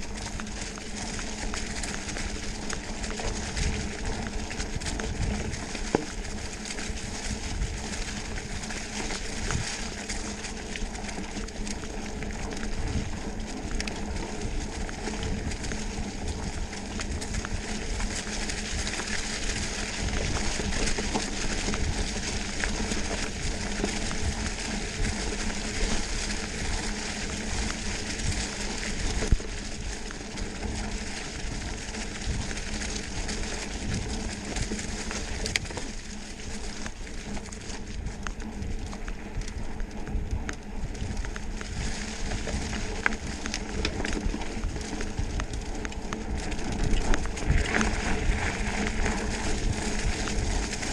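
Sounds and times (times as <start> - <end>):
bike rattling: 0.0 - 50.9
bike tyres crunching through leaves: 0.0 - 50.9.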